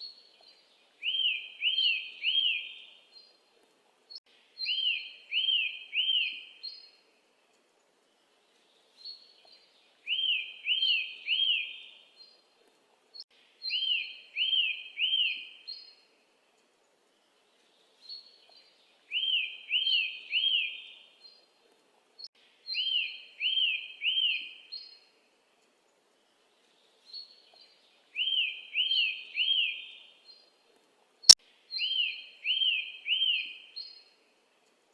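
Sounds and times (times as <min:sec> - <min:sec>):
bird song: 0:00.0 - 0:16.2, 0:16.8 - 0:25.3, 0:26.2 - 0:30.8, 0:31.7 - 0:34.7.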